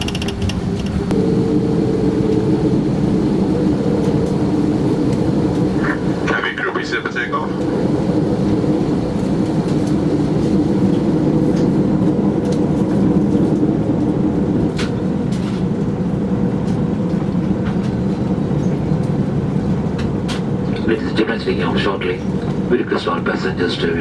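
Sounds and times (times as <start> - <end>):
airliner cabin engine drone: 0.0 - 24.0.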